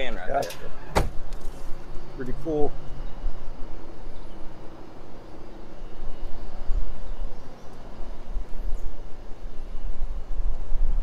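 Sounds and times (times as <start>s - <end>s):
faint steady hum: 0.0s - 11.0s
wind buffeting microphone: 0.0s - 11.0s.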